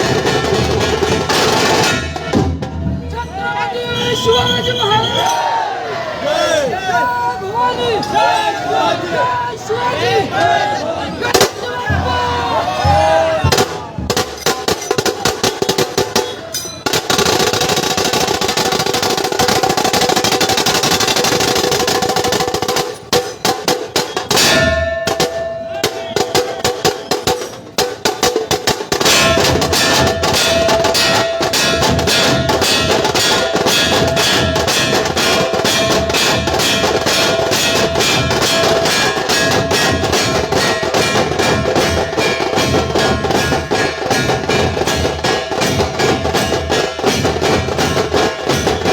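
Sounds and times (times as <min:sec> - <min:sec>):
dhol drum beats: 0:00.0 - 0:05.1, 0:11.2 - 0:48.9
tasha drum strokes: 0:00.0 - 0:05.6, 0:11.2 - 0:48.9.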